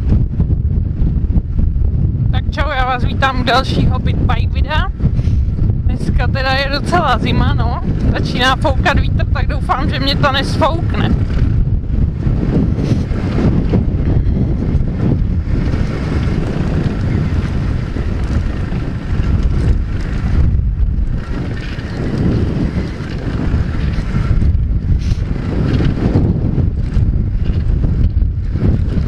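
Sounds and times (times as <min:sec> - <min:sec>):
motorbike engine running: 0:00.0 - 0:29.0
wind buffeting microphone: 0:00.0 - 0:29.0.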